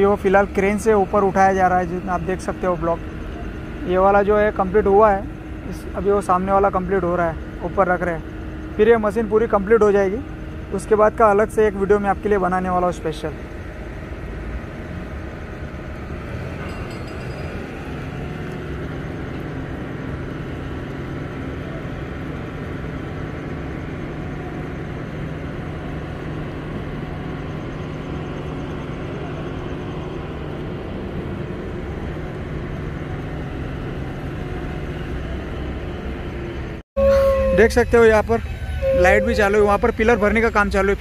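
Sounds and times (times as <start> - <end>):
heavy machinery engine drone: 0.0 - 41.0.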